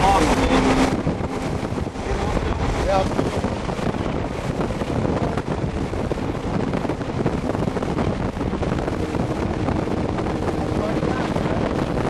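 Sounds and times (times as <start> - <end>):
vehicle road noise: 0.0 - 12.0
wind buffeting microphone: 0.0 - 12.0.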